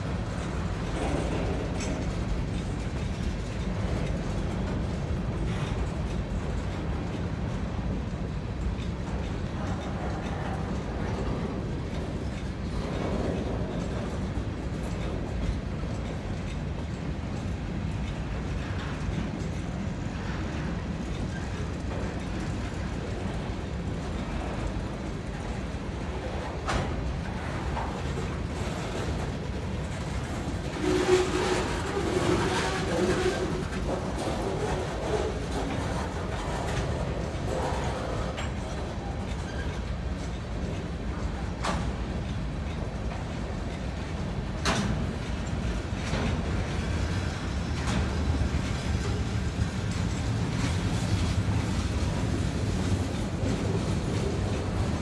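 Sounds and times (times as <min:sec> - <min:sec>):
steel train wheels rumbling on rails: 0:00.0 - 0:55.0.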